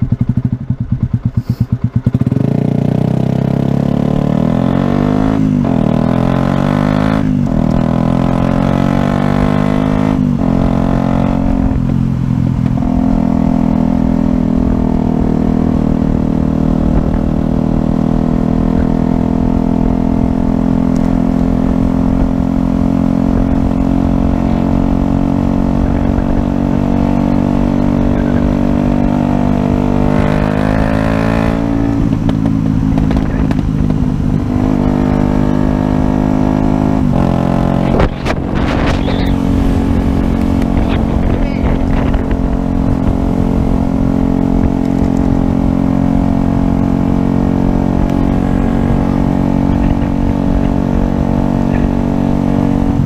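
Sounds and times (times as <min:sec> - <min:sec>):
motorcycle engine accelerating: 0:00.0 - 0:53.0
wind rushing on microphone: 0:04.8 - 0:53.0.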